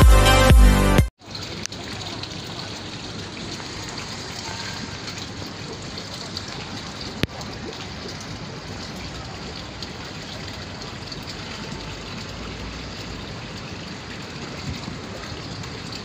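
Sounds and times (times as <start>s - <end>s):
water trickling and splashing: 1.2s - 16.0s.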